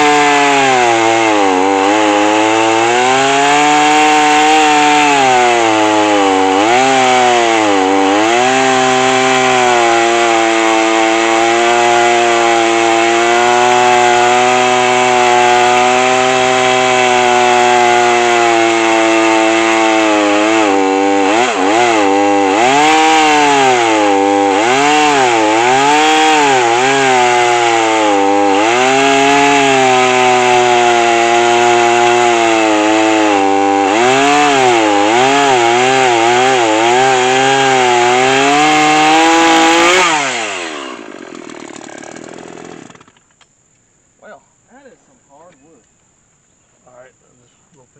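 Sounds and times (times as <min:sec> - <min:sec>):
chainsaw cutting a log: 0:00.0 - 0:43.3.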